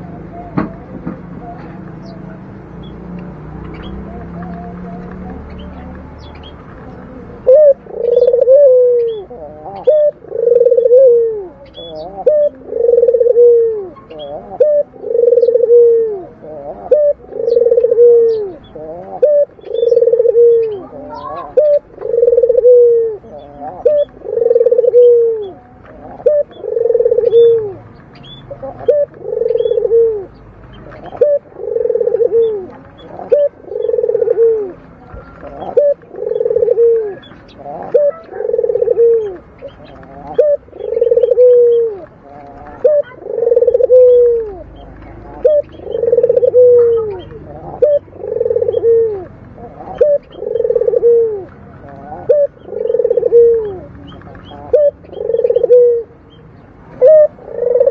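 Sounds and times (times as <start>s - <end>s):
dove cooing: 0.0s - 57.9s
small birds chirping: 0.0s - 57.9s.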